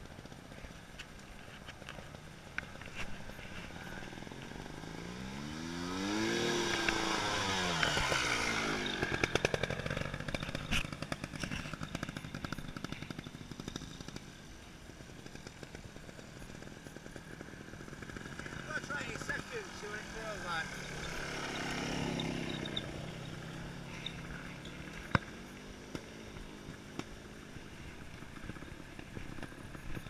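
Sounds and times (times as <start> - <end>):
motorcycle passing by: 0.0 - 30.0.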